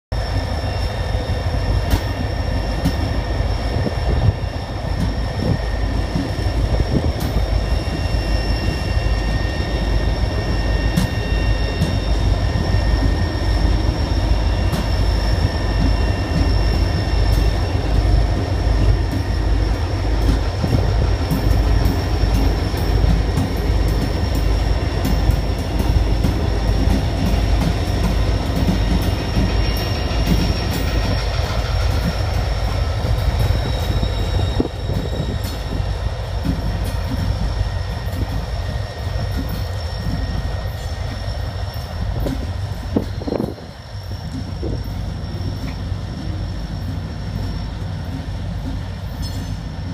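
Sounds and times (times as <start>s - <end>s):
diesel locomotive engines rumbling: 0.1s - 49.9s.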